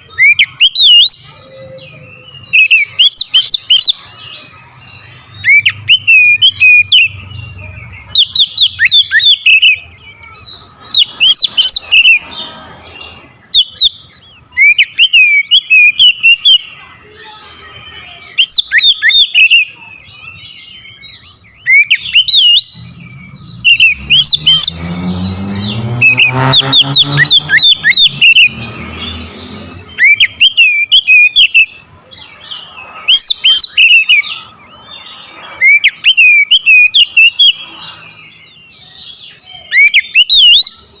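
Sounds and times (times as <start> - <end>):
bird singing whistled phrases: 0.0 - 12.3, 13.4 - 37.7, 38.5 - 41.0.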